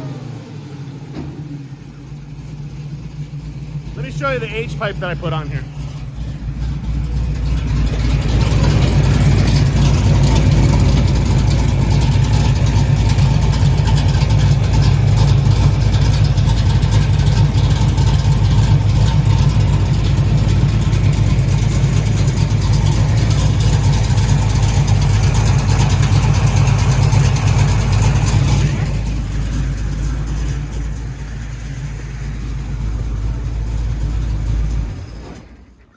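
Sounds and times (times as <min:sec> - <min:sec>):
car engine idling deep rumble: 0:00.0 - 0:35.9.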